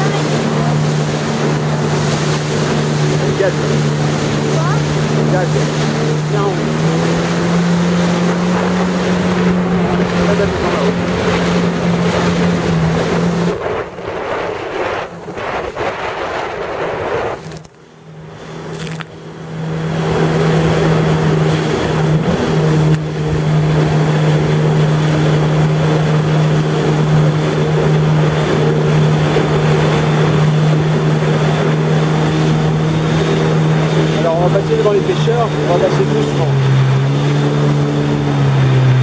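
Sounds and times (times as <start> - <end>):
jet ski engine droning: 0.0 - 39.0
rushing water: 0.0 - 39.0
wind: 0.0 - 39.0.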